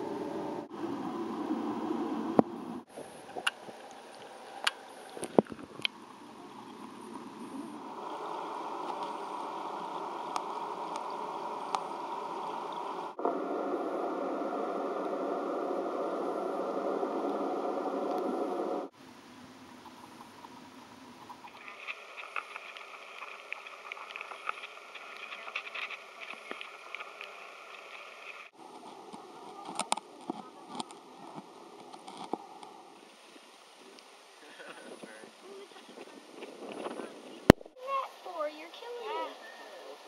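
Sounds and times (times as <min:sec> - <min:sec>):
steady water noise: 0:00.0 - 0:40.0.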